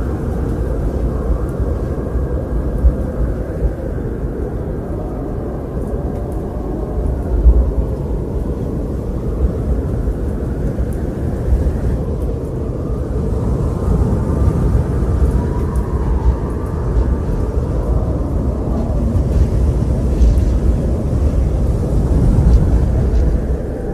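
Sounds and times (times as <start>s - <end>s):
faint whistling wind howl: 0.0s - 23.9s
low rumbling wind: 0.0s - 23.9s.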